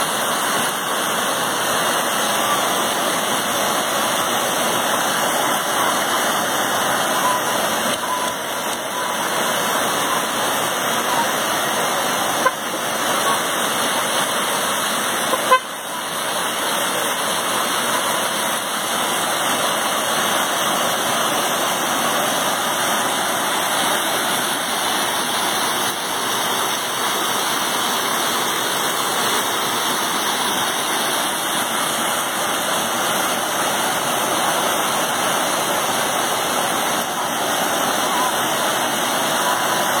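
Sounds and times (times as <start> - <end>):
rushing water: 0.0 - 40.0.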